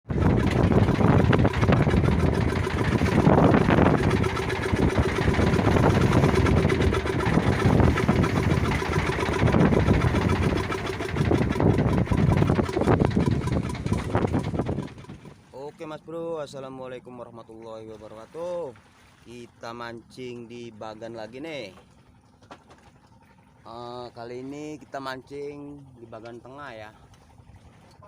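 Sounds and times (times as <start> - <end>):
small boat engine running: 0.0 - 28.0.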